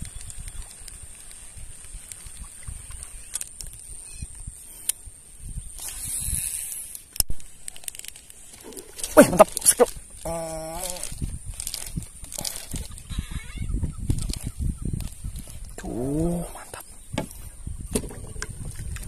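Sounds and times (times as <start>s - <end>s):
fishing rod and reel handling: 0.0s - 13.5s, 14.1s - 19.0s.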